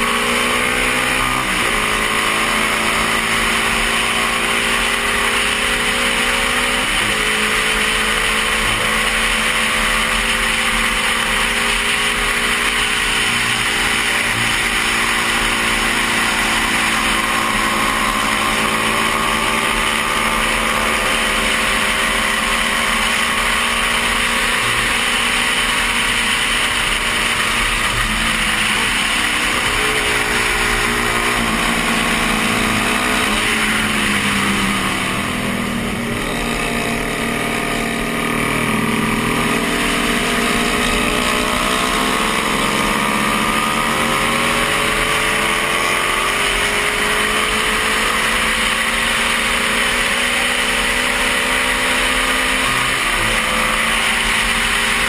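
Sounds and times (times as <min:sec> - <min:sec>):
motorcycle engine running hard: 0:00.0 - 0:55.0.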